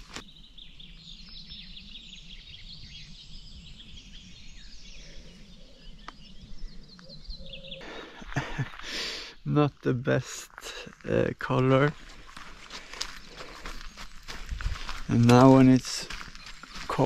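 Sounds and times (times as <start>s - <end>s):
low outdoor background: 0.0s - 17.0s
small birds chirping: 0.0s - 17.0s.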